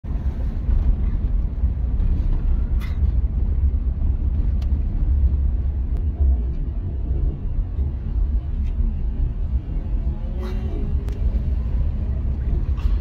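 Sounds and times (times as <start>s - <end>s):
car engine rumble in cabin: 0.0s - 13.0s
road noise: 0.0s - 13.0s.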